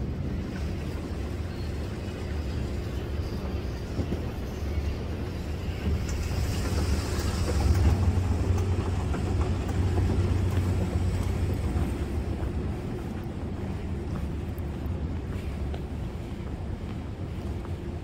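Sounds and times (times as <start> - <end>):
low rumble of airport concourse: 0.0 - 18.0.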